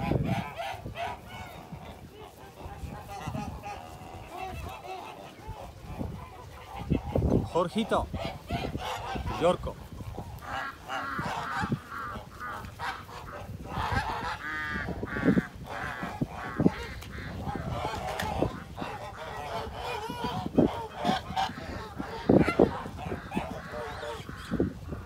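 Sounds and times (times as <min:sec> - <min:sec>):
geese calling: 0:00.0 - 0:25.0
loud drawn-out goose call: 0:00.0 - 0:25.0.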